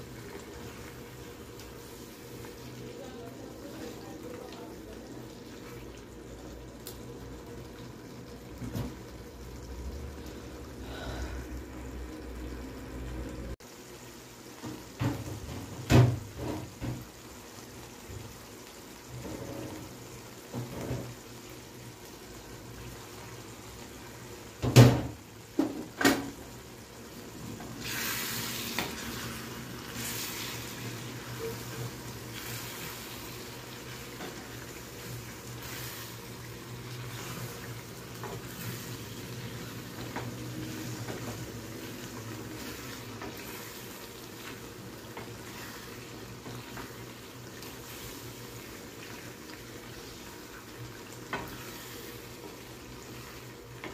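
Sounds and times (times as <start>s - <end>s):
bright sizzle: 0.0s - 53.9s
curry bubbling in a pan: 0.0s - 53.9s.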